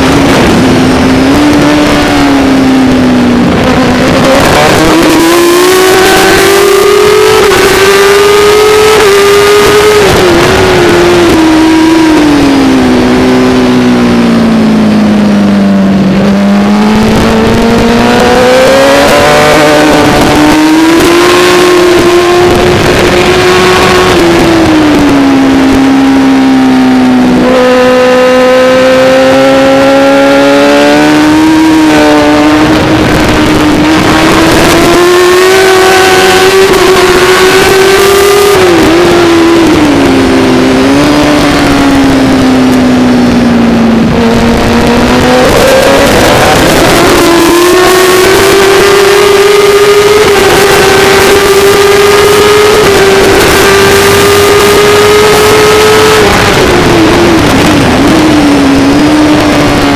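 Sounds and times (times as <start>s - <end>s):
motorcycle engine at high revs: 0.0s - 59.9s
wind rush: 0.0s - 59.9s.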